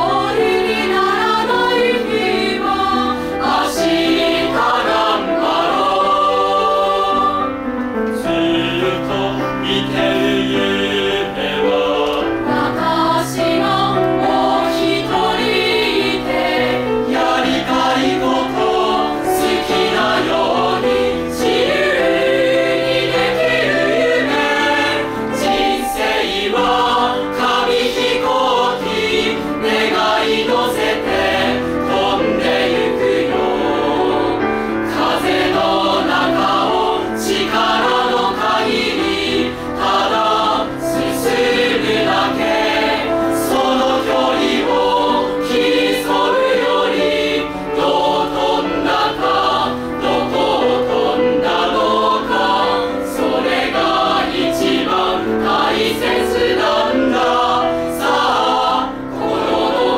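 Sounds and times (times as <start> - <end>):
choir singing a pop song: 0.0 - 59.9.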